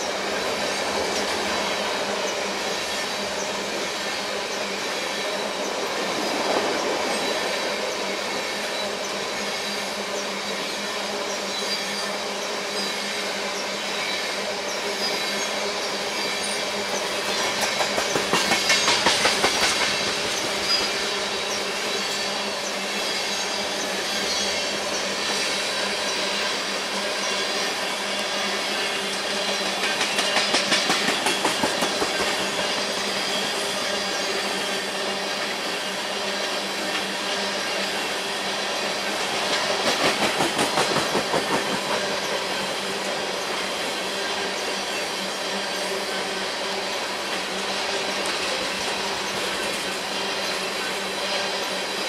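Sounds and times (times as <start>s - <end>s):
freight train wheels rolling: 0.0s - 52.0s.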